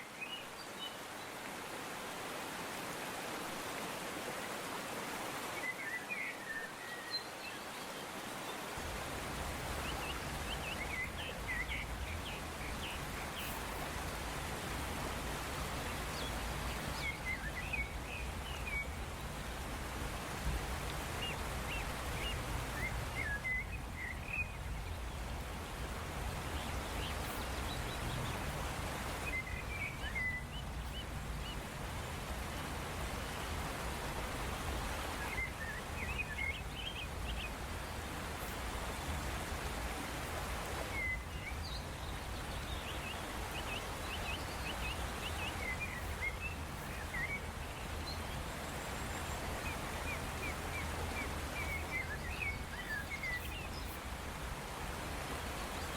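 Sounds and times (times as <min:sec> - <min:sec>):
steady background hiss: 0:00.0 - 0:55.9
birds chirping: 0:08.4 - 0:19.7, 0:20.4 - 0:55.9.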